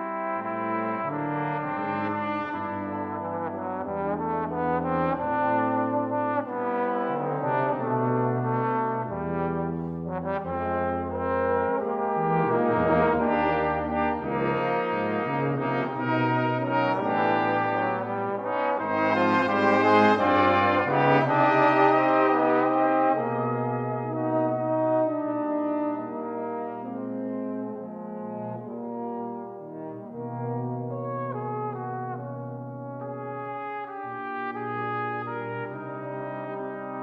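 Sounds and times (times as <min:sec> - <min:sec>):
brass quintet playing slow ballad: 0:00.0 - 0:37.0.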